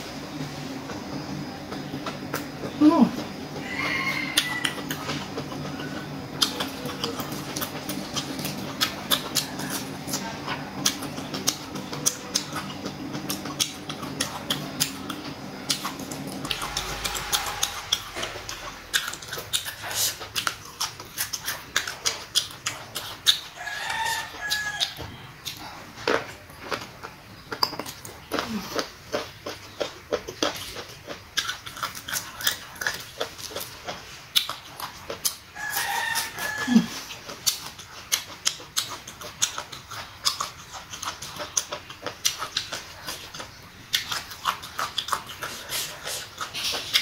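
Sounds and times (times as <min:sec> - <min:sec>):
steady low hum: 0:00.0 - 0:47.0
crunchy chewing: 0:00.1 - 0:47.0.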